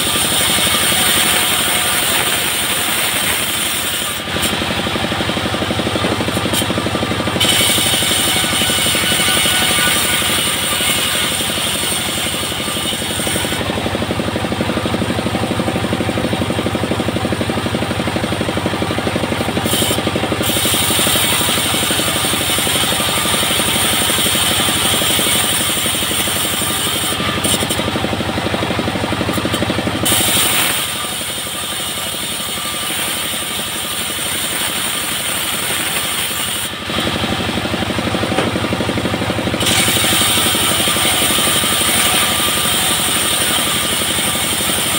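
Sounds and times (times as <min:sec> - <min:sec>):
saw blade cutting hiss: 0:00.0 - 0:13.8, 0:19.6 - 0:28.0, 0:29.3 - 0:38.6, 0:39.6 - 0:44.9
bandsaw mill engine running: 0:00.0 - 0:44.9.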